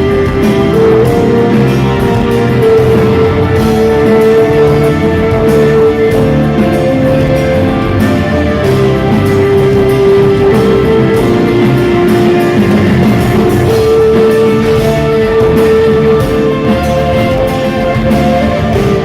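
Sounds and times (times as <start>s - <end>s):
guitar holding long notes: 0.0s - 19.0s
rock band playing: 0.0s - 19.0s.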